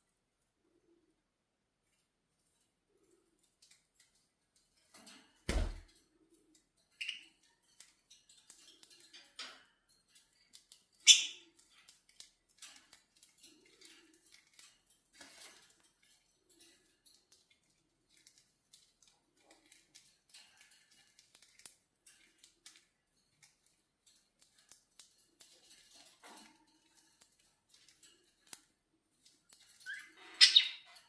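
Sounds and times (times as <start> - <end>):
claws and beaks clicking on bars: 1.8 - 31.0.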